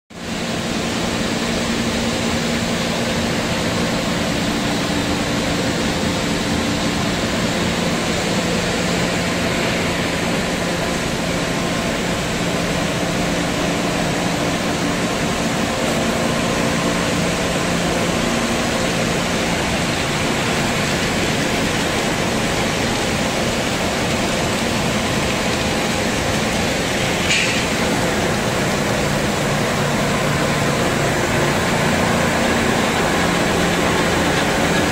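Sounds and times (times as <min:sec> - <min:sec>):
food extruder machinery din: 0:00.2 - 0:34.9.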